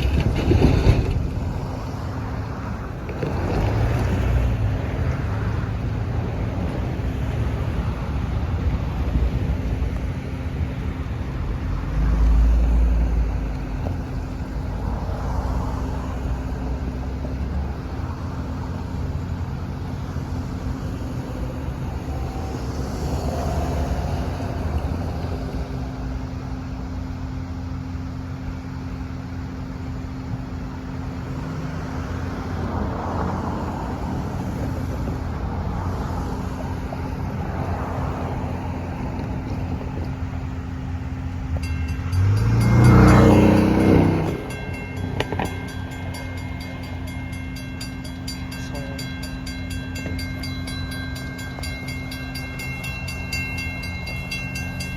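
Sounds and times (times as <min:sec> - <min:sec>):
diesel locomotive engine drone: 0:00.0 - 0:54.9
train low rumble: 0:00.0 - 0:54.9.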